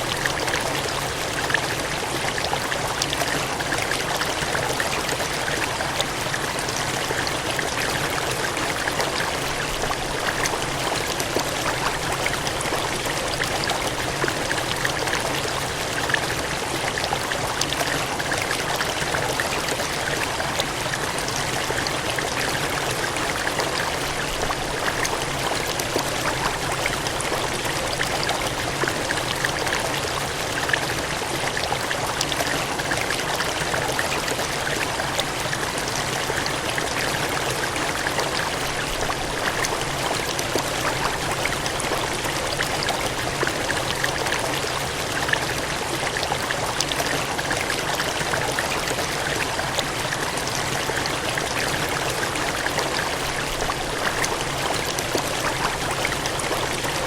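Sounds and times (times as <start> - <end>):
water gushing and cascading: 0.0 - 57.0.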